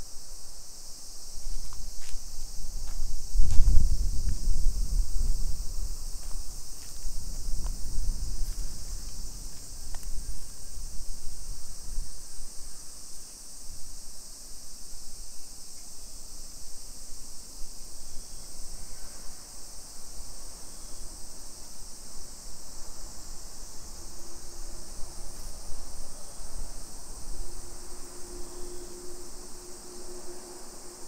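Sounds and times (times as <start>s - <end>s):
cicadas shrilling: 0.0s - 31.0s.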